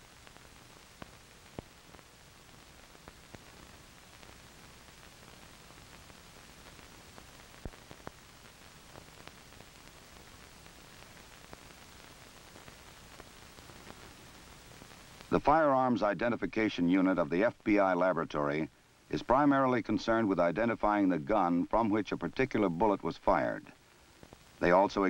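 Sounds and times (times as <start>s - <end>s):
old film soundtrack hiss: 0.0s - 25.0s.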